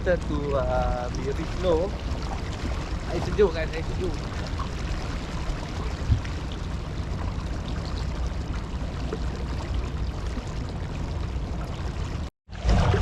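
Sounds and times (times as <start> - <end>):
water rushing along a kayak: 0.0 - 13.0
wind rumble on microphone: 0.0 - 13.0.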